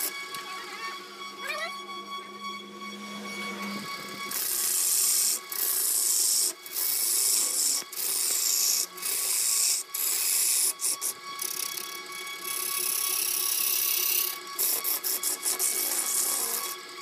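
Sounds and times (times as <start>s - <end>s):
lathe tool scraping wood: 0.0s - 17.0s.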